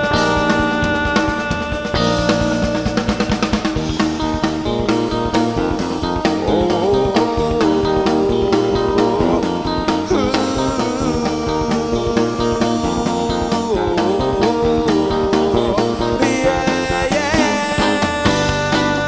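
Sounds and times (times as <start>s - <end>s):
bass: 0.0s - 19.0s
drum beat: 0.0s - 19.0s
guitar: 0.0s - 19.0s
rock band playing live: 0.0s - 19.0s.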